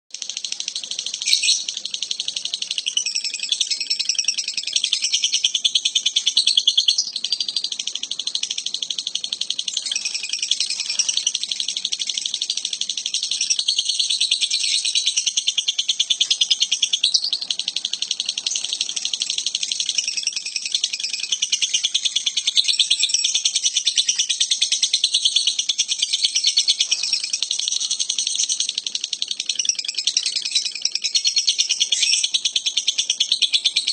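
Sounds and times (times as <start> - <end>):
bird chattering trill: 0.1 - 33.9.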